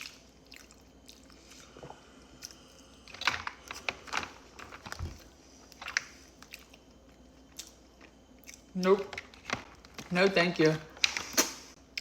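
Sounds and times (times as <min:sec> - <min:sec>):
person chewing food: 0:00.0 - 0:09.9.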